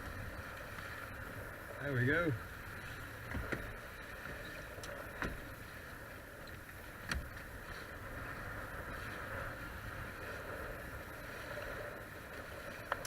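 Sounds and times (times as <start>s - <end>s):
water rushing along boat hulls: 0.0s - 13.0s.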